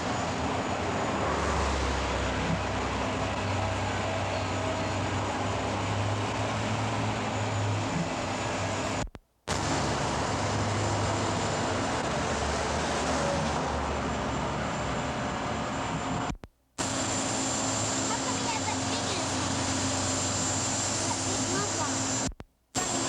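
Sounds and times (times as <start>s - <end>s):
traffic noise with low hum: 0.0s - 23.0s.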